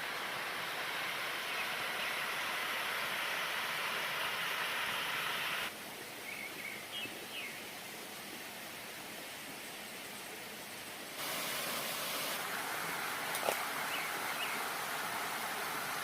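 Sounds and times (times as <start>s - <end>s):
stream and waterfall rushing: 0.0s - 16.0s.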